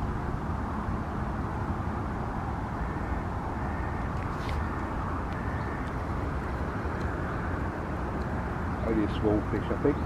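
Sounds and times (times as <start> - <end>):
outdoor background rumble and hiss: 0.0 - 10.0.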